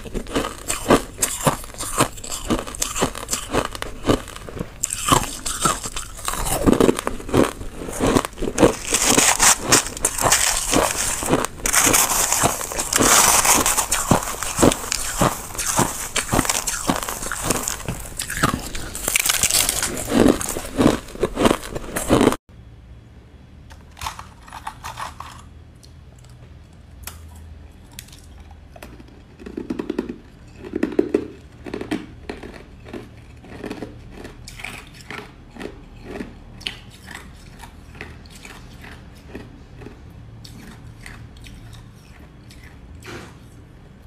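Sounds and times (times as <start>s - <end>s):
chewing crushed ice: 0.0s - 22.4s, 23.7s - 43.7s.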